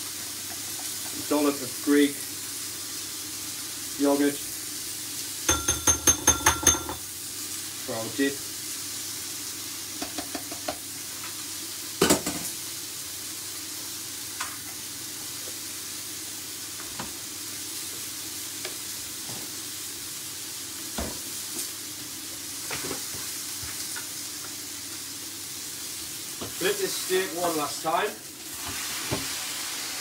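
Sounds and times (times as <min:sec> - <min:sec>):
steak sizzling in a frying pan: 0:00.0 - 0:30.0.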